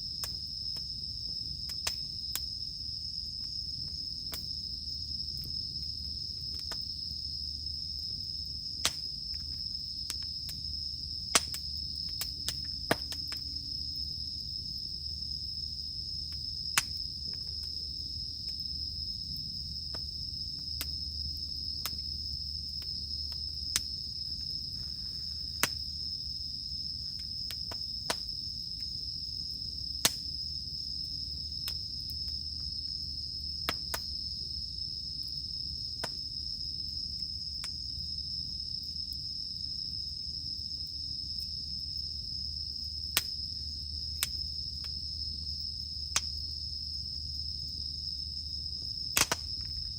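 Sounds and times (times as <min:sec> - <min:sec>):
campfire crackling and popping: 0:00.0 - 0:39.2, 0:42.2 - 0:47.8, 0:48.7 - 0:49.9
cicadas droning: 0:00.0 - 0:49.9.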